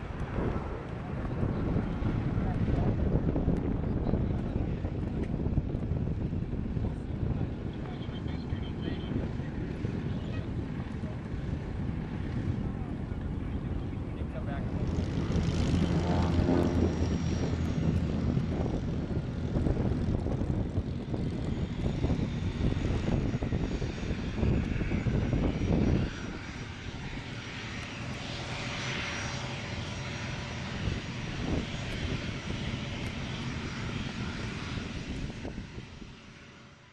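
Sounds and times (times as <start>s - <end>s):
aircraft engine pulsing: 0.0s - 36.9s.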